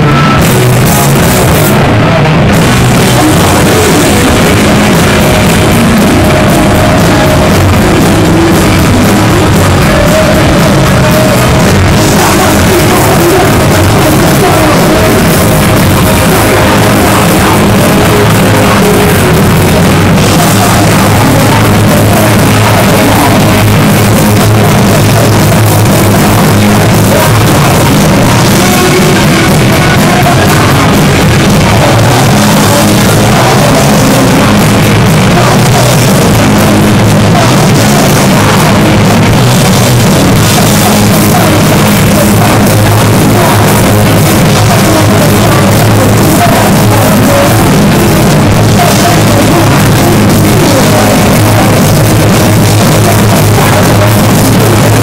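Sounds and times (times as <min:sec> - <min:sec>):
live heavy metal band: 0:00.0 - 0:55.0.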